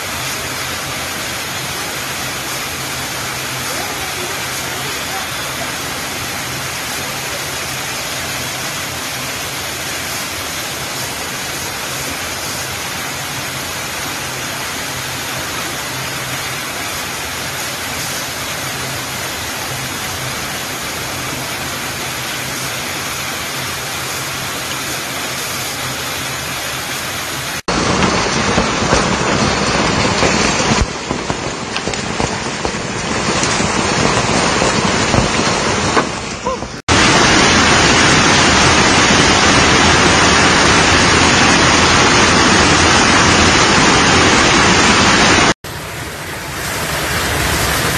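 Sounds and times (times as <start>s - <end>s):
hail and heavy rain pelting: 0.0s - 47.9s.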